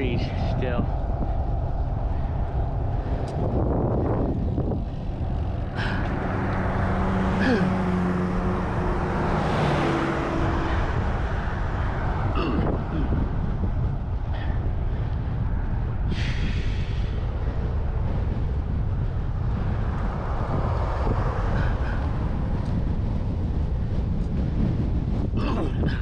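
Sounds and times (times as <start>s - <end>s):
bicycle riding rumble: 0.0s - 26.0s
motor vehicle passing: 0.0s - 26.0s.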